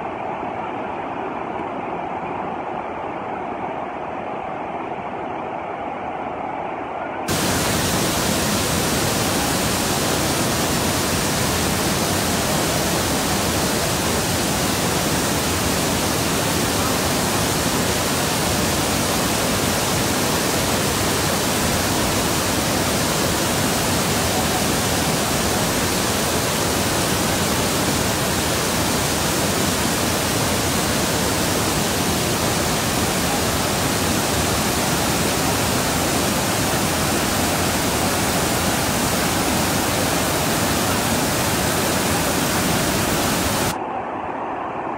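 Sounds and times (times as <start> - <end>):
river rushing through rapids: 7.3 - 43.8.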